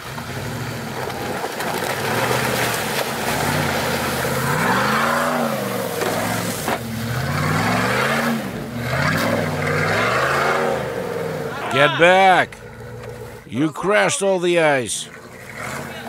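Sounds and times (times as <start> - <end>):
engine revving: 0.0 - 13.6, 14.4 - 16.0
tyres churning through slush: 0.0 - 16.0.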